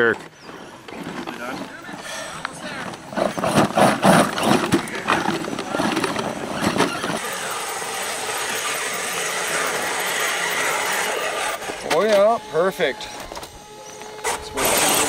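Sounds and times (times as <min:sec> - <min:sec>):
tyres scrabbling: 0:00.0 - 0:15.0
toy truck drivetrain hiss: 0:01.9 - 0:15.0.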